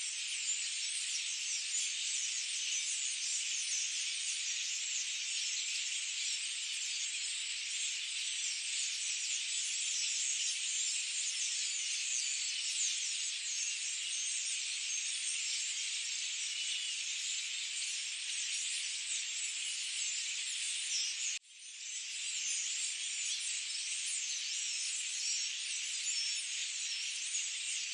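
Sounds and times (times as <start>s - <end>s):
birds chirping and twittering: 0.0s - 27.9s.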